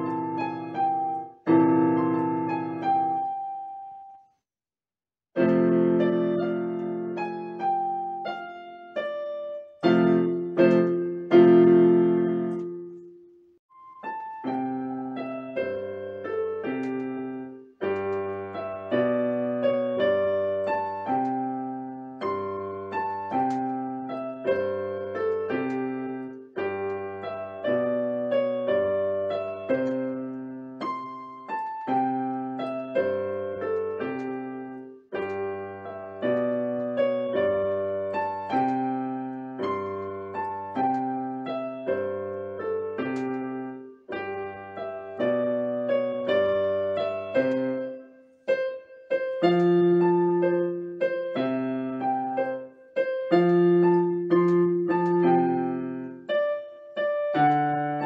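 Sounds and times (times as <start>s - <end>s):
electronic keyboard piano melody: 0.0s - 4.2s, 5.4s - 58.0s.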